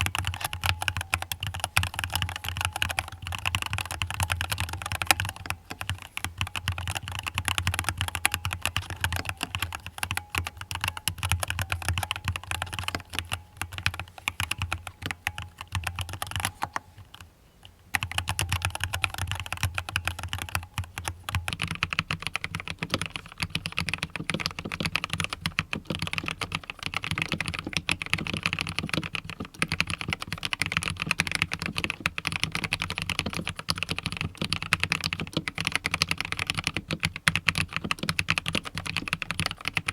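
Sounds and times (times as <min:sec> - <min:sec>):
typing on a mechanical keyboard: 0:00.0 - 0:17.2, 0:17.9 - 0:39.9.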